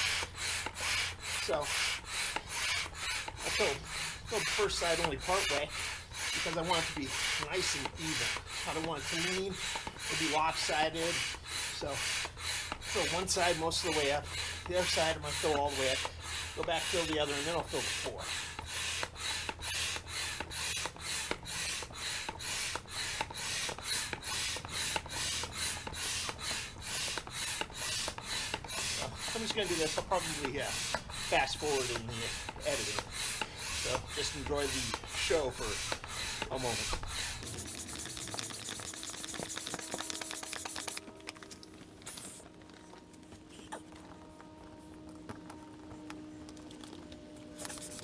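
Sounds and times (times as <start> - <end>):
manual air pump strokes: 0.0 - 46.9, 47.5 - 48.0.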